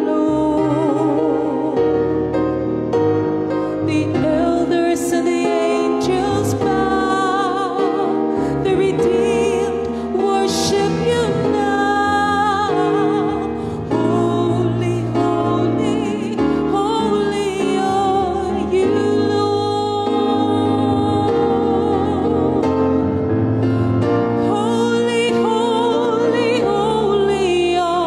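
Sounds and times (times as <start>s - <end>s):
slow worship song: 0.0s - 28.0s.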